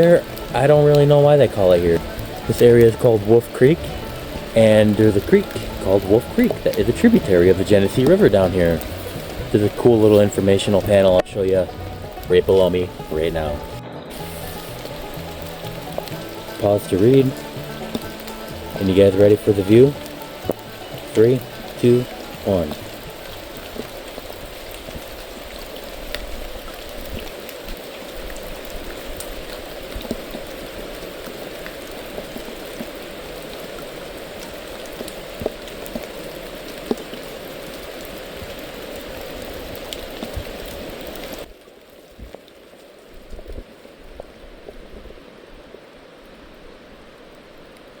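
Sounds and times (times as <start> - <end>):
raindrops ticking sharply: 0.0 - 41.6
steady rain hissing: 0.0 - 48.0.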